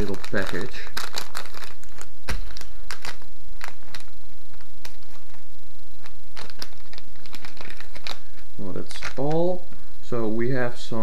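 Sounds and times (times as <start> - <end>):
plastic bags crinkling: 0.0 - 9.8.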